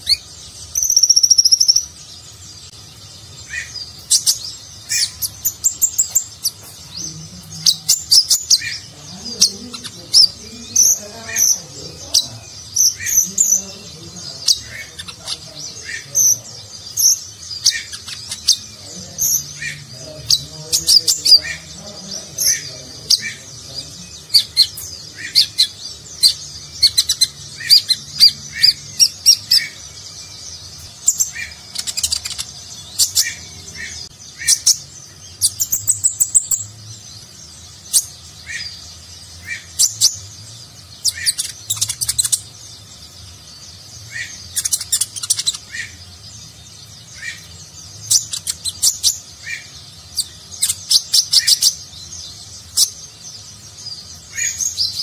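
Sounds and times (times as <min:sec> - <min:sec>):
sunbird singing: 0:00.0 - 0:55.0.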